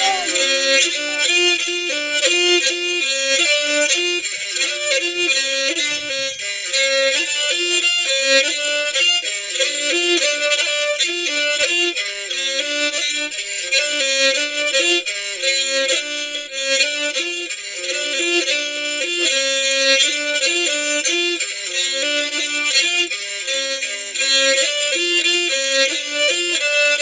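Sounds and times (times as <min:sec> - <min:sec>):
bowed string melody: 0:00.0 - 0:27.0.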